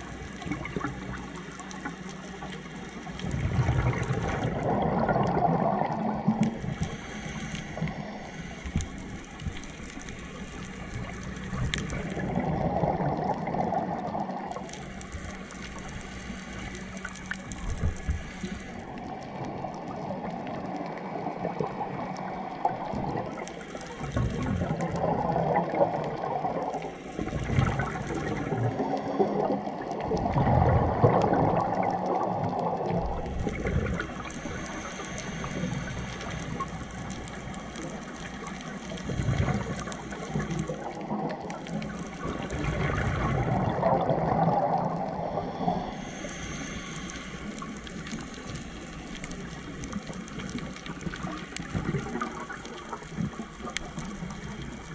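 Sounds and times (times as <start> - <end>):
exhaled bubbles gurgling: 0.0 - 54.9.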